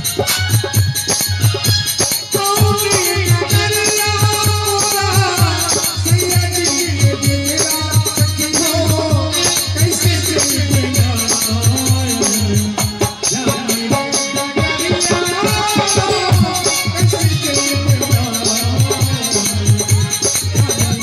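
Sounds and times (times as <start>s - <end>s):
music with a steady beat: 0.0s - 21.0s.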